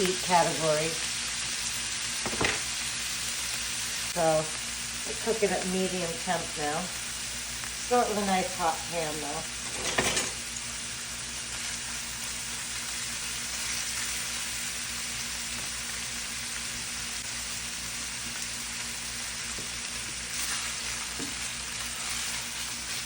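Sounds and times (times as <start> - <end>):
beef sizzling in a pan: 0.0 - 23.0.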